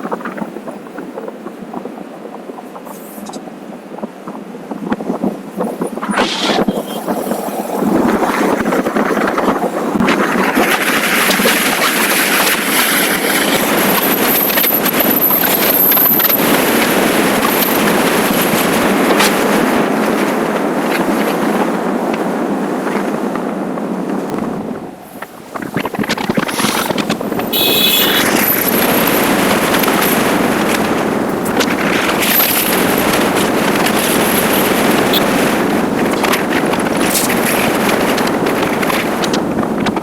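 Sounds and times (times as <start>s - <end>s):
motorcycle engine and road noise: 0.0s - 40.0s
wind rushing over microphone: 0.0s - 40.0s.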